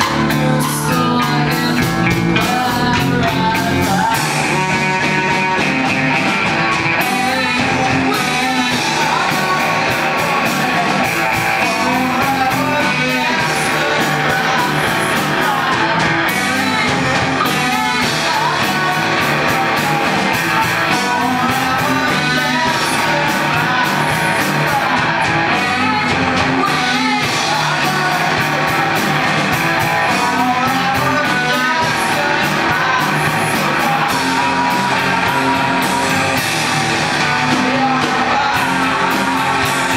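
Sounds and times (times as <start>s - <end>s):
rock band with singing: 0.0s - 39.9s.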